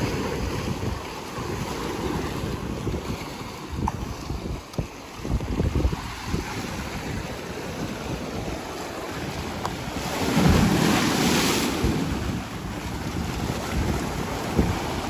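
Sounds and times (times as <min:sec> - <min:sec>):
ocean waves breaking on beach: 0:00.0 - 0:15.0
wind buffeting microphone: 0:00.0 - 0:15.0.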